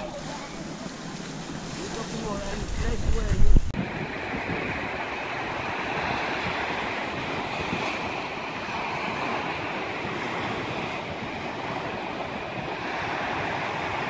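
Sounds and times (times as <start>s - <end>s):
waves washing up a beach: 0.0s - 14.0s
wind on microphone: 0.0s - 14.0s.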